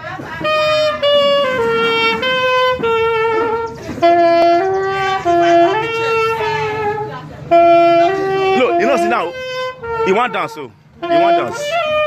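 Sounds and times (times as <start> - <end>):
wind instrument melody: 0.0 - 12.0.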